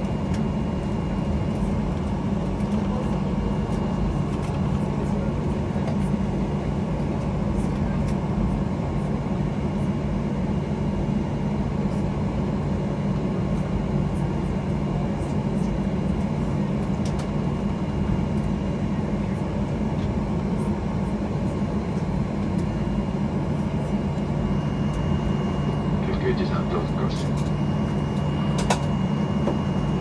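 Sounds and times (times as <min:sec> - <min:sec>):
airliner cabin drone: 0:00.0 - 0:30.0.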